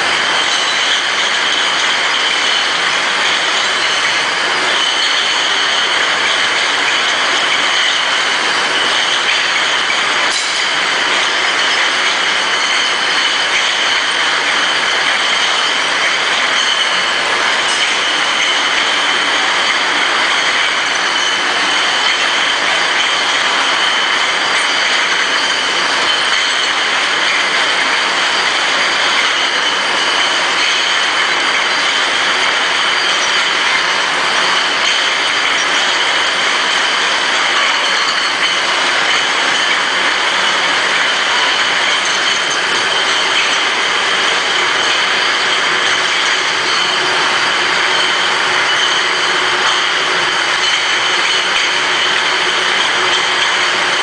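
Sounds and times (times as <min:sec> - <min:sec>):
bottle conveyor mechanical din: 0:00.0 - 0:54.0
constant high whine: 0:00.0 - 0:54.0.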